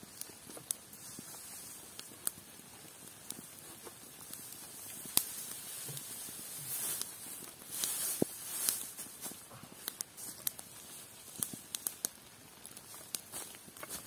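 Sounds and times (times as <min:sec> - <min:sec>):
soft rustle: 0:00.0 - 0:14.0.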